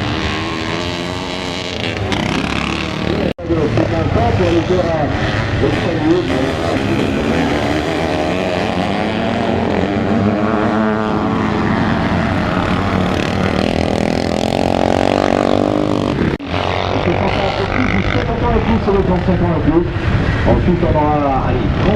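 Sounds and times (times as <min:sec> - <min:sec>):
motocross engines revving: 0:00.0 - 0:21.9.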